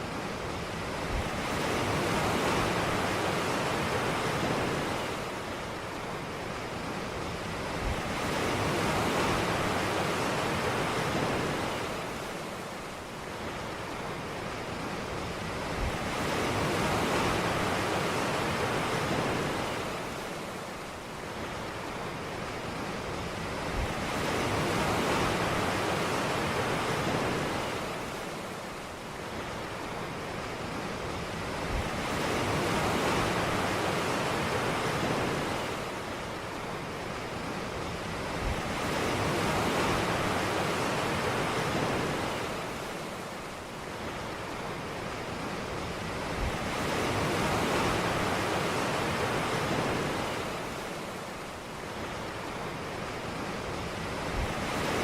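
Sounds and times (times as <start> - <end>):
waves washing onto beach: 0.0 - 55.0.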